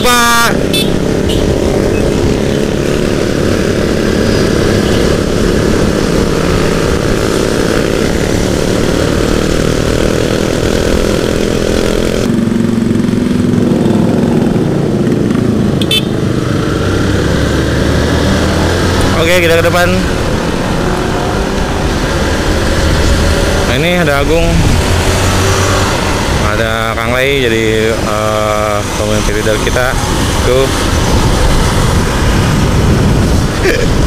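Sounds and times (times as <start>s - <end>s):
motorcycle engine running: 0.0s - 33.8s
wind rushing over microphone: 0.0s - 34.0s.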